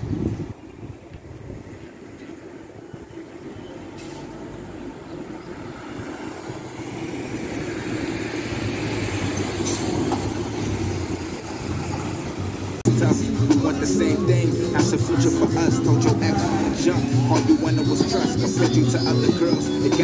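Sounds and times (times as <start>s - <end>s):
car engines: 0.0s - 20.0s.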